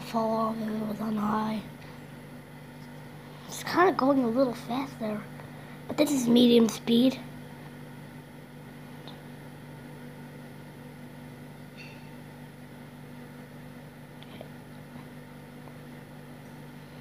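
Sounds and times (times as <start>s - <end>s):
ceiling fan running: 0.0s - 17.0s.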